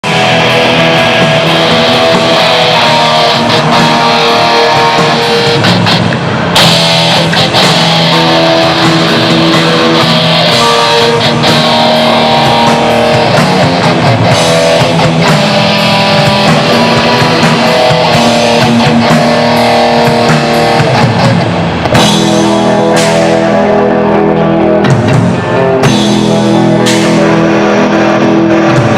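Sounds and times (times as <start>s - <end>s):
distorted electric guitars: 0.0s - 28.9s
heavy metal band playing live: 0.0s - 28.9s.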